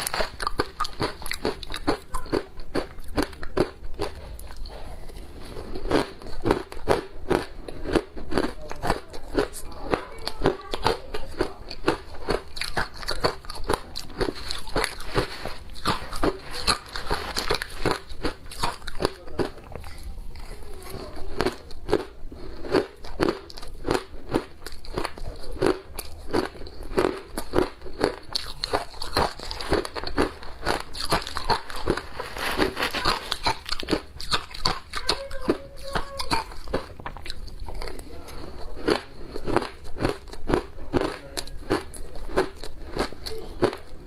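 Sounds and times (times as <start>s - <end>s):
ice being chewed: 0.0s - 44.0s.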